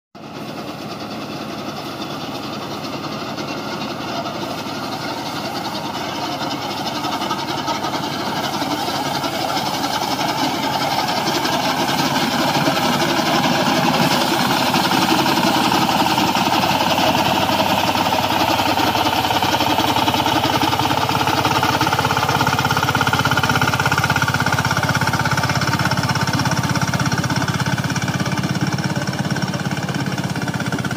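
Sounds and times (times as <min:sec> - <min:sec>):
combine harvester running: 0:00.2 - 0:30.9.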